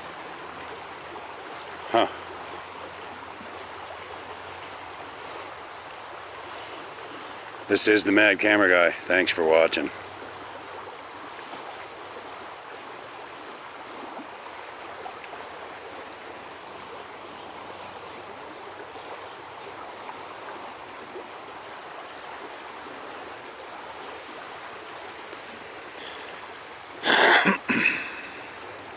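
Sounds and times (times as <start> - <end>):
river water flowing: 0.0 - 28.9.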